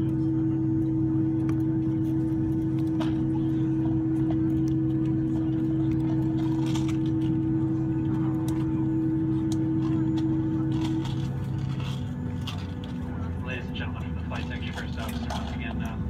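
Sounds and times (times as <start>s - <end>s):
airplane cabin hum: 0.0s - 16.0s.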